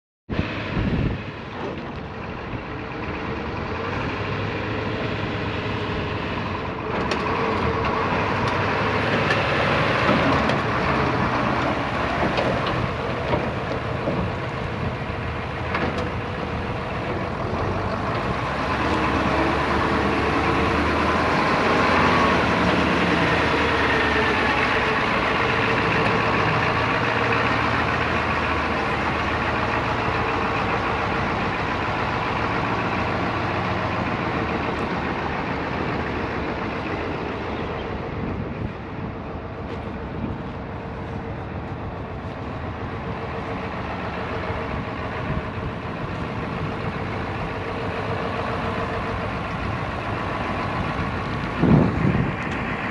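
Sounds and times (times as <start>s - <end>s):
truck engine running: 0.3s - 52.9s.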